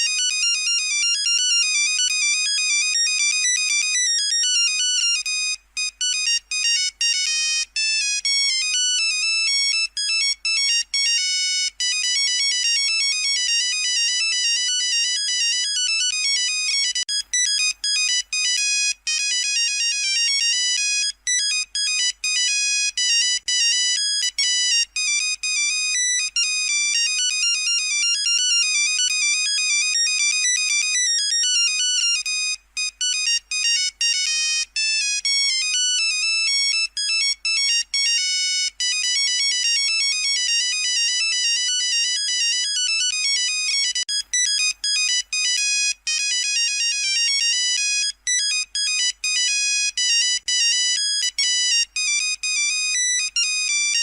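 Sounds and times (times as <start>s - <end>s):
monophonic ringtone beeps: 0.0s - 54.0s.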